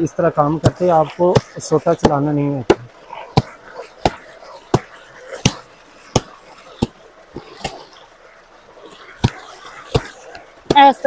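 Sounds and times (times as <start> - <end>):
stick beating wet blanket: 0.1 - 11.0.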